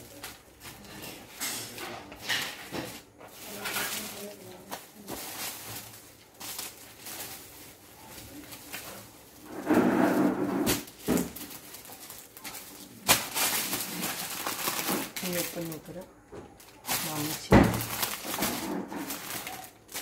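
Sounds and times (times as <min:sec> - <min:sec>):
fabric and plastic bag rustling: 0:00.0 - 0:20.0.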